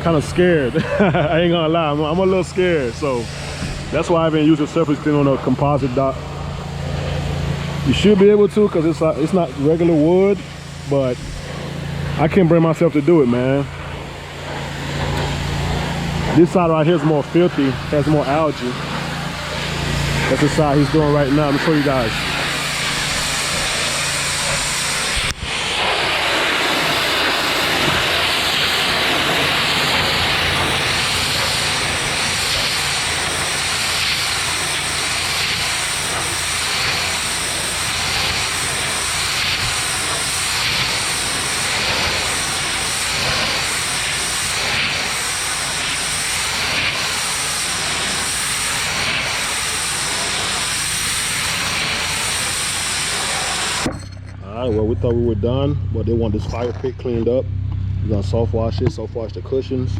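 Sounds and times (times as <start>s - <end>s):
pressure washer spraying water: 0.0s - 54.0s.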